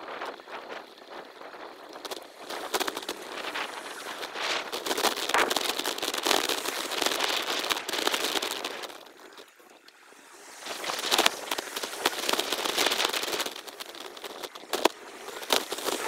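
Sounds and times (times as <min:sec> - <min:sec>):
sped-up crackle and hiss: 0:00.0 - 0:16.0.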